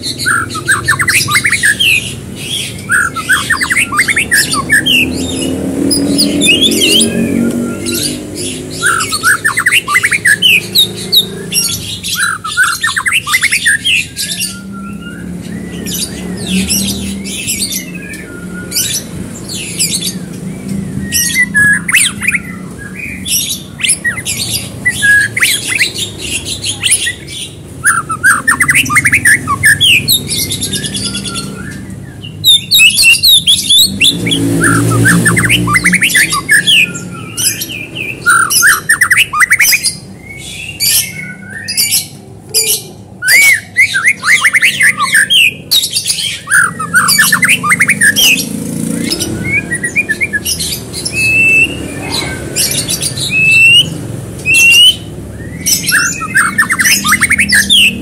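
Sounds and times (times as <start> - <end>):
songbird singing whistles and trills: 0.0 - 58.0.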